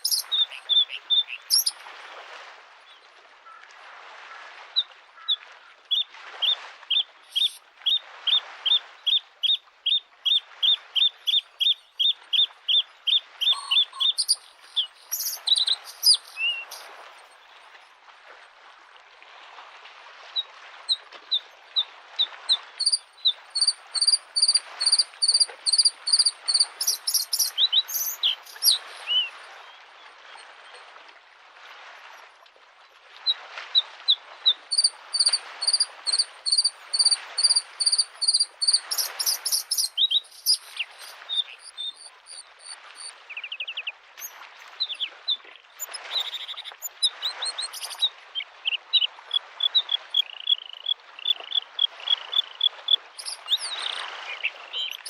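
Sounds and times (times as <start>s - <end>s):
lake waves lapping shore: 0.0s - 55.0s.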